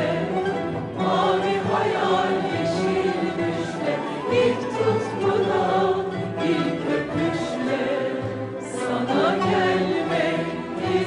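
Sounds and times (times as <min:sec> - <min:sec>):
choir singing sustained notes: 0:00.0 - 0:11.0.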